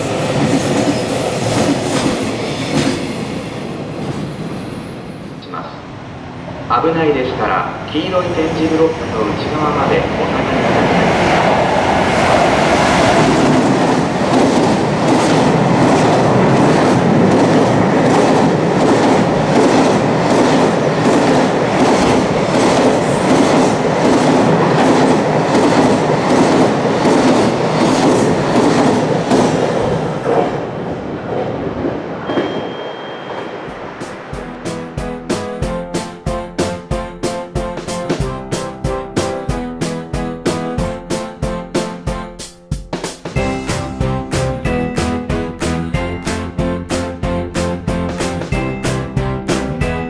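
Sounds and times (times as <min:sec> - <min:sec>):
freight train passing: 0:00.0 - 0:42.1, 0:43.2 - 0:50.0.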